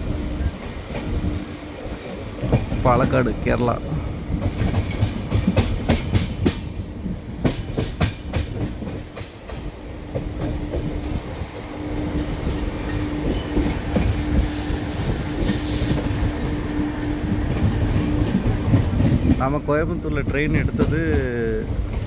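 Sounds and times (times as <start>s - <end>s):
train wheels clicking over rail joints: 0.1s - 22.0s.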